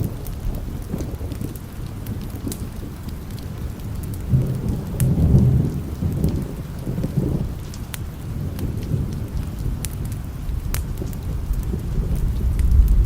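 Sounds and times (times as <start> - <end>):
rolling thunder rumble: 0.0 - 13.0
sharp crackles: 0.0 - 13.0
steady rain: 0.0 - 13.0.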